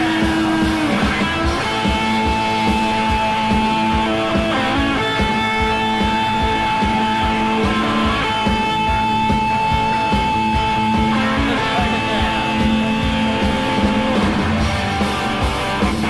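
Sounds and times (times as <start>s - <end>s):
bass guitar: 0.0s - 16.0s
drum beat: 0.0s - 16.0s
electric guitar sustained notes: 0.0s - 16.0s
low drone: 0.0s - 16.0s.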